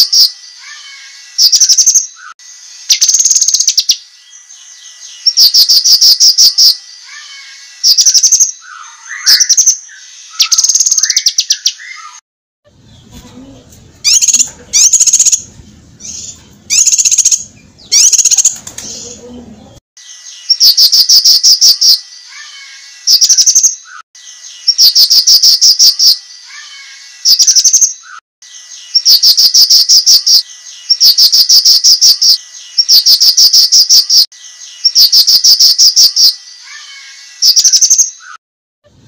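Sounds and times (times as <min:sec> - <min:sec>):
bird singing rapid high notes: 0:00.0 - 0:12.2, 0:14.0 - 0:19.1, 0:20.0 - 0:38.4
lower whistled bird notes: 0:00.0 - 0:12.2, 0:14.0 - 0:18.6, 0:20.0 - 0:38.4.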